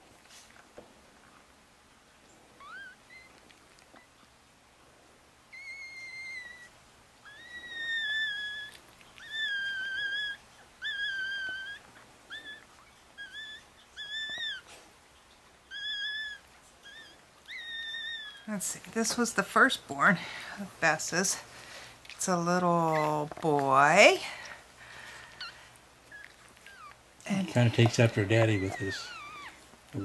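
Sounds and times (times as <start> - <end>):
puppies whining: 2.3 - 4.3, 5.5 - 30.0.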